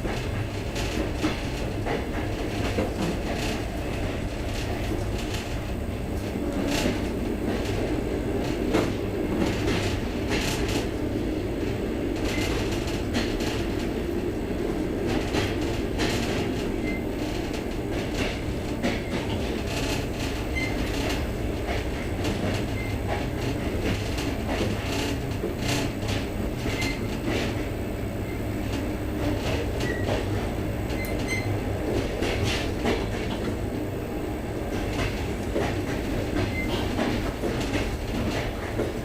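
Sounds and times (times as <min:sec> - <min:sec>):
train low rumble: 0:00.0 - 0:39.0.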